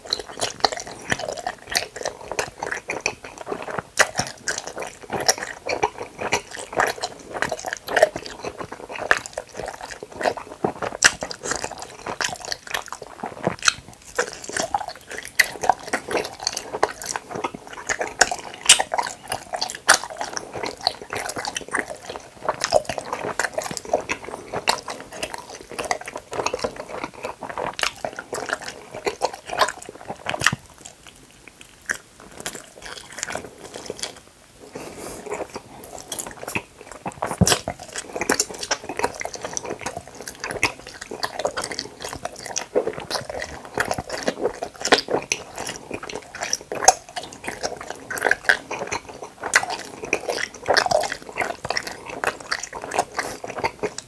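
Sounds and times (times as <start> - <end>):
chewing gummy candy: 0.0 - 54.0
mouth clicks and smacks: 0.0 - 54.0.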